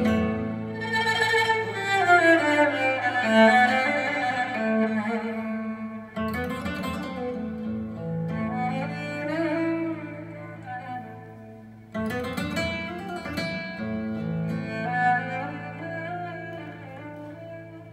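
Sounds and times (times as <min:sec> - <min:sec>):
flamenco string melody: 0:00.0 - 0:17.9.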